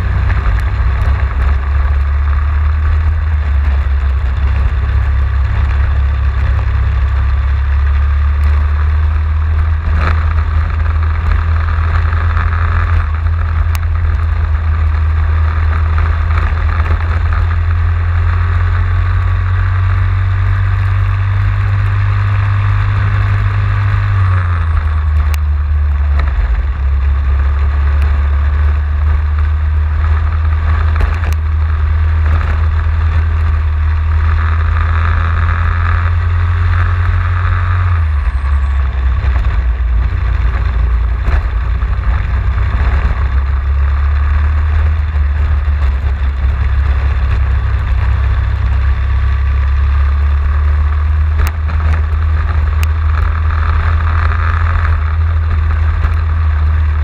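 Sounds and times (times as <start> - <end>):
kart engine running hard: 0.0 - 57.0
wind rumble on microphone: 0.0 - 57.0.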